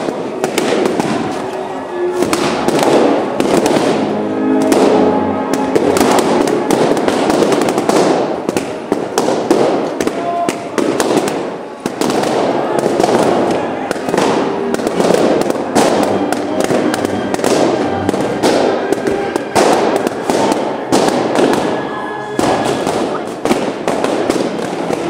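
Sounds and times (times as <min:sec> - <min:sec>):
balloons popping: 0:00.0 - 0:25.0.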